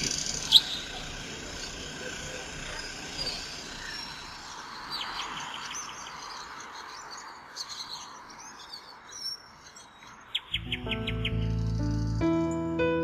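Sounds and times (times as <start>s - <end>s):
bird-like chirps and twitters: 0.0s - 12.5s.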